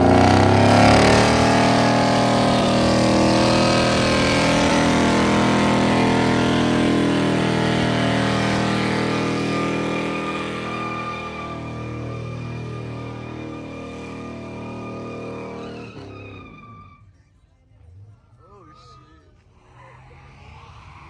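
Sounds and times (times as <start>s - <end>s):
truck engine at steady revs: 0.0s - 16.9s.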